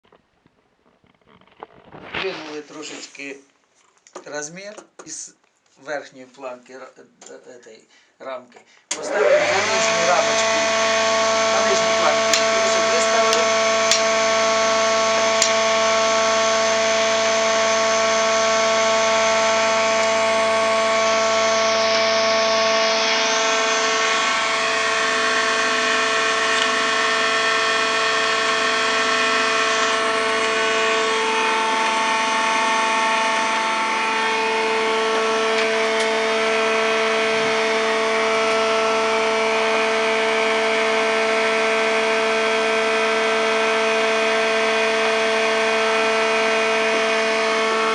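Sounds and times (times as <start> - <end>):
woodworking machine whining: 8.9 - 47.9.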